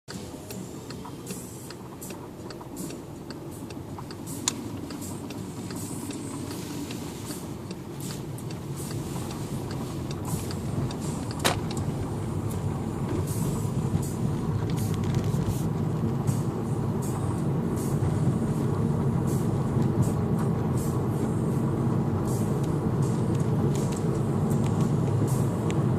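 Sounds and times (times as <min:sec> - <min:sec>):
vehicle driving rumble: 0:00.1 - 0:25.9.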